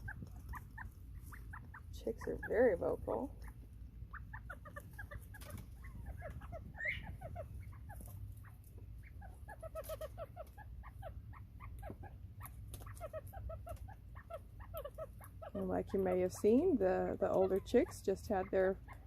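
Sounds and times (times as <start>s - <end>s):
quail chicks peeping: 0.0s - 19.0s
steady low rumble: 0.0s - 19.0s.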